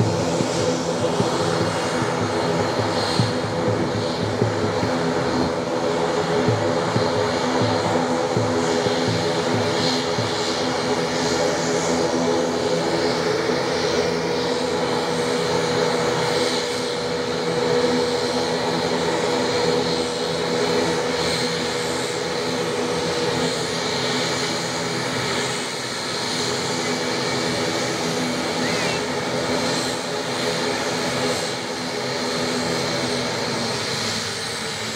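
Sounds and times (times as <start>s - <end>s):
turboprop engines hum and whine: 0.0s - 34.9s.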